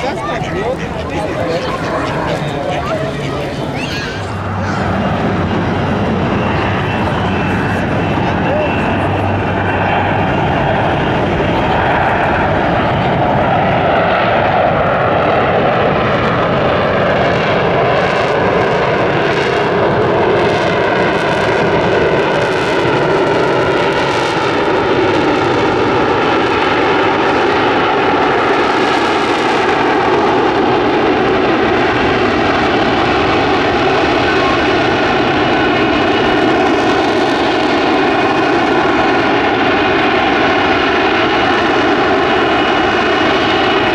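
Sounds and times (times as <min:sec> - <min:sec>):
jet engine hovering: 0:00.0 - 0:43.9.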